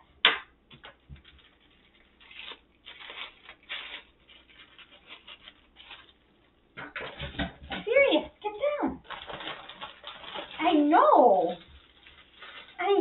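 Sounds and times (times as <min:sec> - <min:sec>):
packaging rustling: 0:00.7 - 0:07.4, 0:09.0 - 0:13.0.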